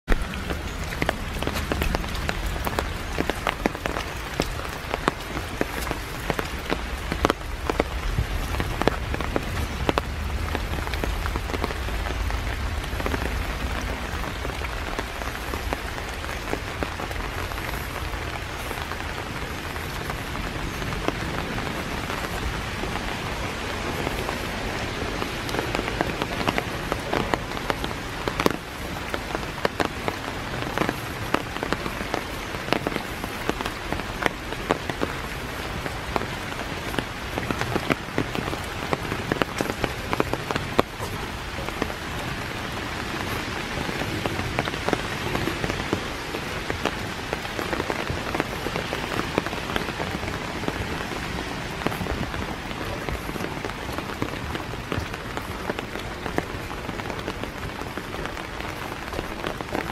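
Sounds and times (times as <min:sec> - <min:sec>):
rain falling through trees: 0:00.0 - 0:59.9
sharp drips and taps: 0:00.1 - 0:59.9.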